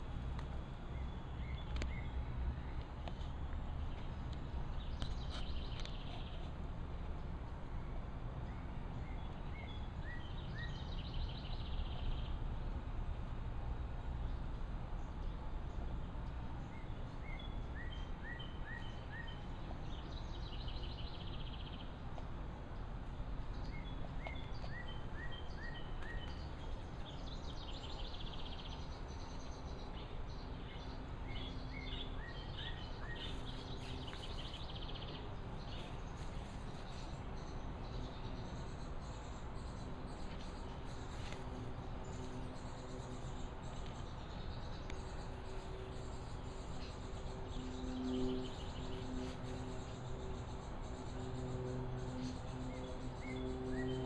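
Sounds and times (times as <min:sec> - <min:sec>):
low outdoor rumble: 0:00.0 - 0:54.0
songbird singing chirps and trill: 0:00.0 - 0:54.0.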